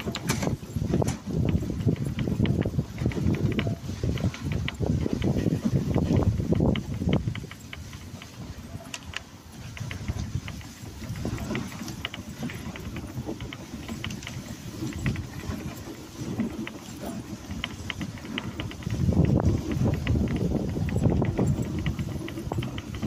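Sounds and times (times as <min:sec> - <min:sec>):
dogs' paws pattering: 0:00.0 - 0:23.0
sled runners scraping on snow: 0:00.0 - 0:23.0.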